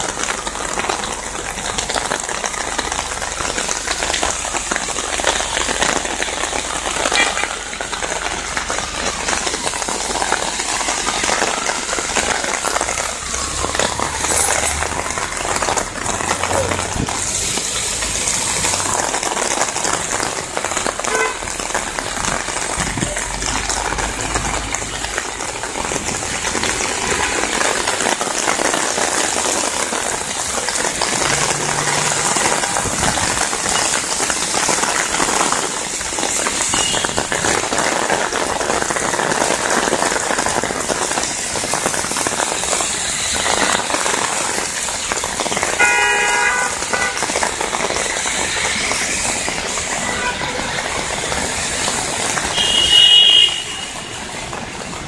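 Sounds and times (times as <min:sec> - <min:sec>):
cars swishing through water: 0:00.0 - 0:55.0
heavy rain pouring: 0:00.0 - 0:55.0.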